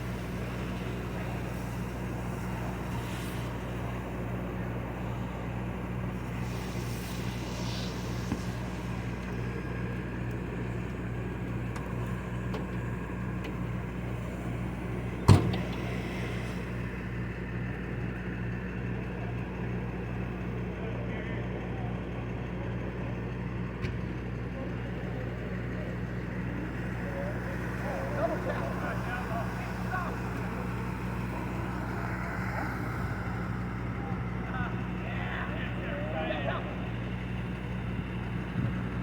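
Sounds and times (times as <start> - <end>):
vehicle engine idling: 0.0 - 39.0.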